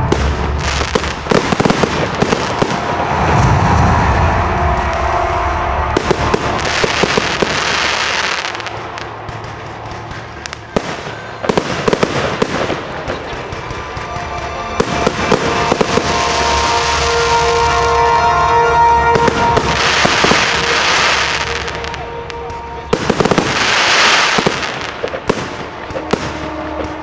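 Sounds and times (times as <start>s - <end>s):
firework shells bursting with bangs: 0.0s - 3.3s, 5.9s - 27.0s
fireworks crackling: 0.0s - 27.0s.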